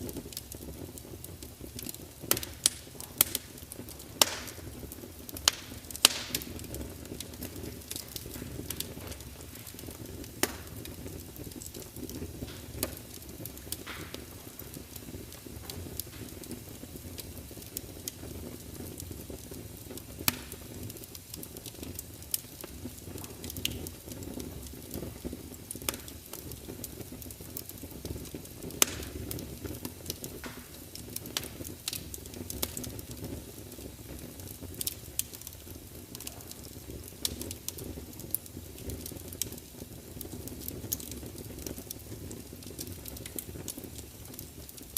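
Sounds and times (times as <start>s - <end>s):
log fire crackling: 0.0s - 44.9s
sharp pops of fire: 0.0s - 44.9s.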